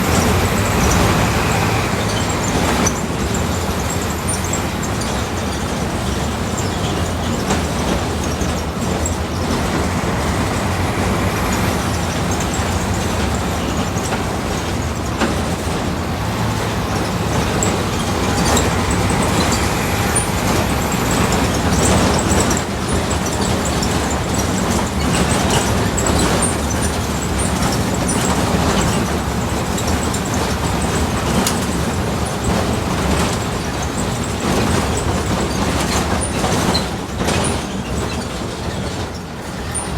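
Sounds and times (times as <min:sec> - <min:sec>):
bus engine running: 0:00.0 - 0:39.9
road noise: 0:00.0 - 0:39.9.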